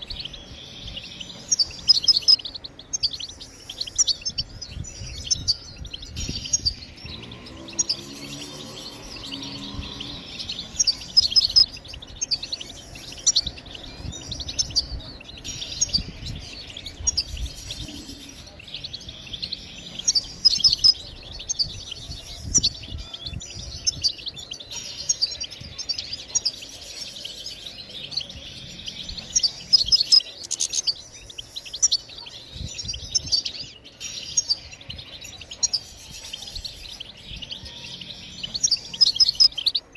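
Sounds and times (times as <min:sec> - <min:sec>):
goldfinch chirps and trills: 0:00.0 - 0:39.9.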